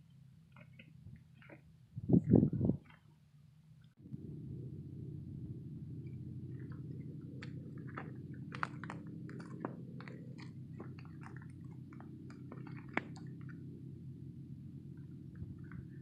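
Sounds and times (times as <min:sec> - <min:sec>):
low rumble: 0:01.9 - 0:02.9, 0:04.0 - 0:16.0.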